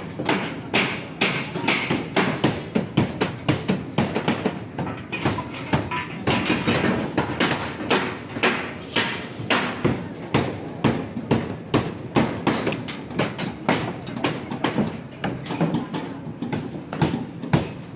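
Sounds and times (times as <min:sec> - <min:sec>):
metal clanks and knocks: 0:00.0 - 0:10.4, 0:11.0 - 0:17.9.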